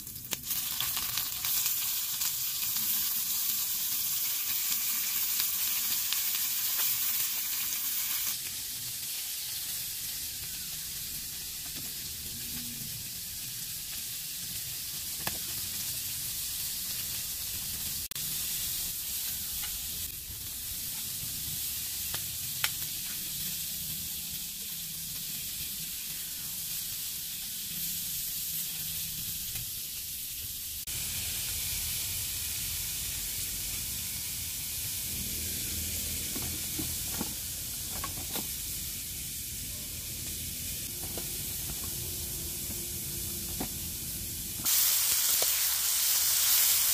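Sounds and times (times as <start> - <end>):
chicken sizzling in a frying pan: 0.0 - 46.9.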